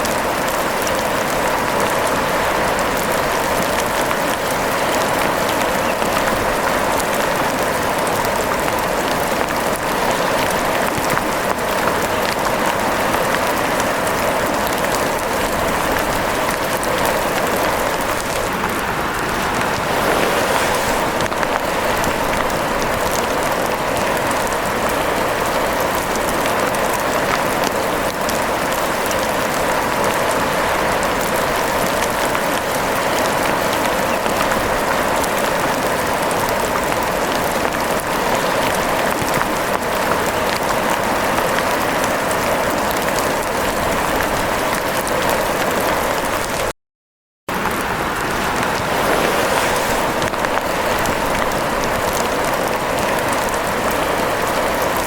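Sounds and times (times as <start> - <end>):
rain falling: 0.0 - 46.7, 47.5 - 55.0.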